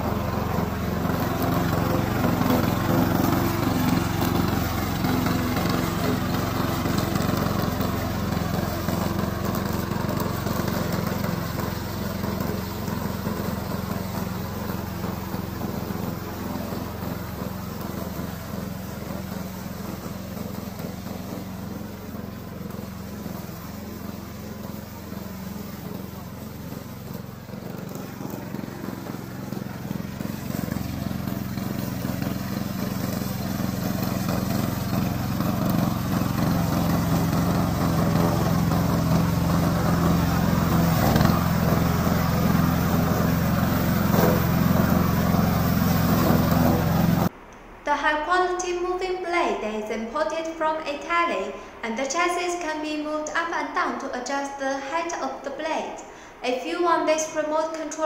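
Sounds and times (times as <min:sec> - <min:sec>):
lawn mower engine running: 0:00.0 - 0:47.3.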